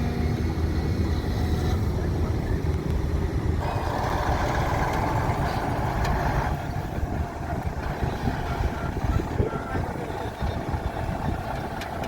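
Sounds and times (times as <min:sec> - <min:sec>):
heavy diesel engine under load: 0:00.0 - 0:12.0.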